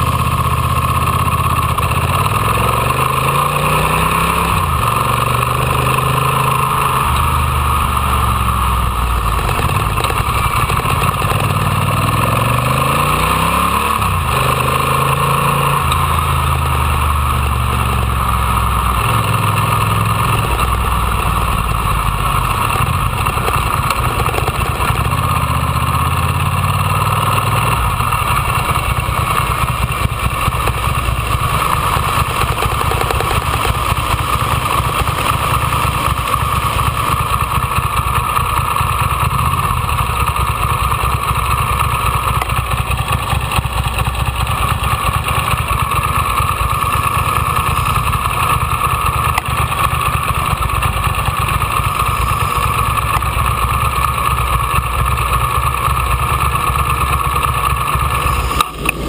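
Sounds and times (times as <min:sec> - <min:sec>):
motorcycle engine revving: 0:00.0 - 0:59.0
road and wind noise: 0:00.0 - 0:59.0.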